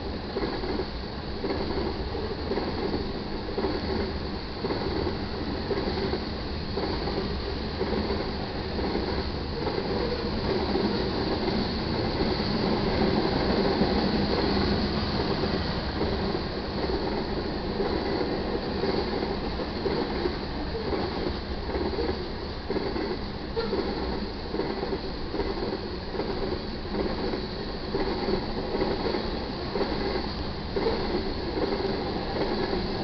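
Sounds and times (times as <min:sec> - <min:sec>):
train wheels rolling on rails: 0:00.0 - 0:33.0.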